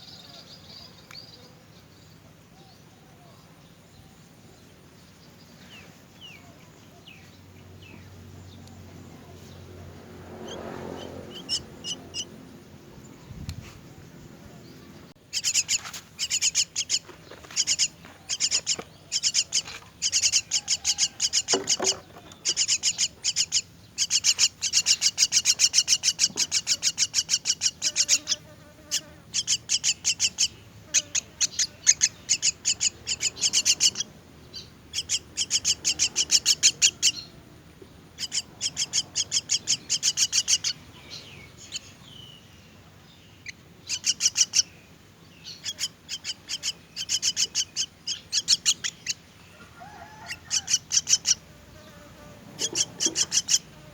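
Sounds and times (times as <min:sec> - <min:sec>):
bird chicks begging chirps: 0:00.0 - 0:53.9.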